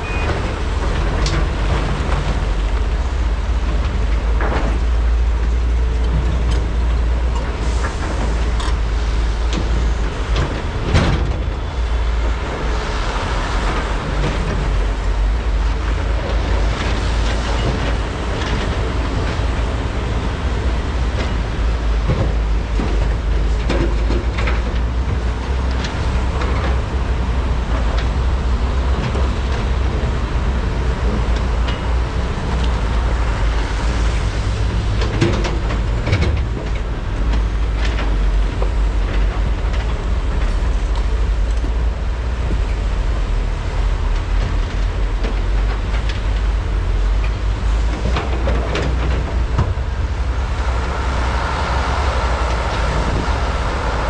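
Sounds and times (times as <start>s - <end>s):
excavator diesel engines rumbling: 0.0s - 54.0s.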